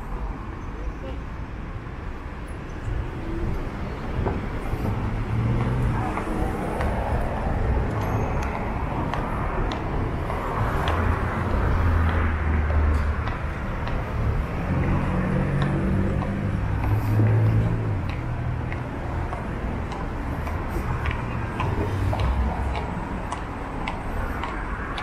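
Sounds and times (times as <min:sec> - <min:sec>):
traffic engine and tyre rumble: 0:00.0 - 0:25.0
vehicle passing: 0:02.8 - 0:25.0.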